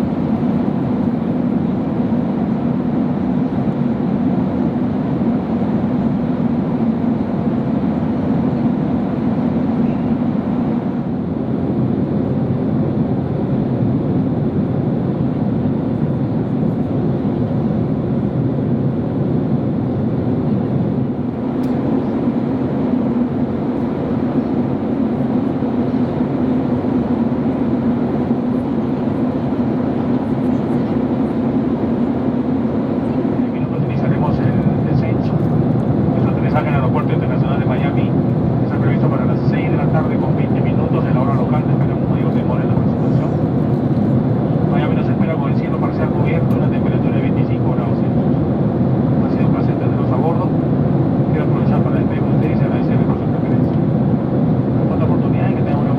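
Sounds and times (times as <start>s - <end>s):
airplane cabin engine roar: 0.0s - 55.9s.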